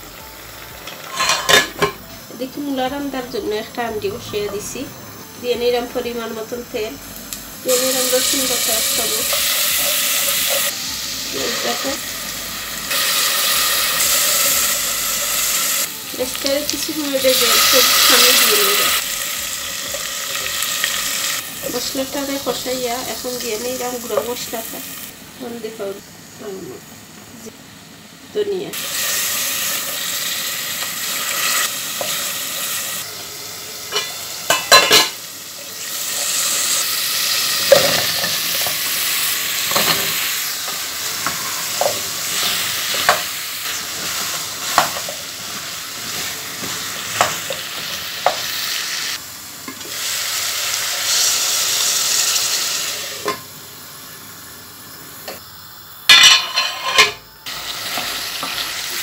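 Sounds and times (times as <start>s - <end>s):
curry sizzling in pot: 0.0s - 26.9s, 28.3s - 59.0s.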